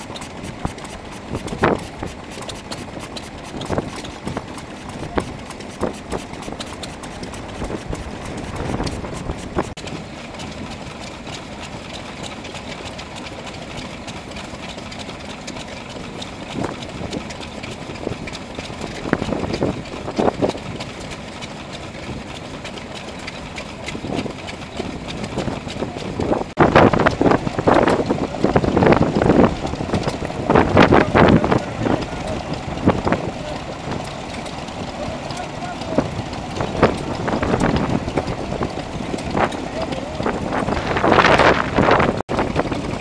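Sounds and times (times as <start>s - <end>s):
oil engine uneven firing beats: 0.0s - 43.0s
small stationary engines running: 0.0s - 43.0s.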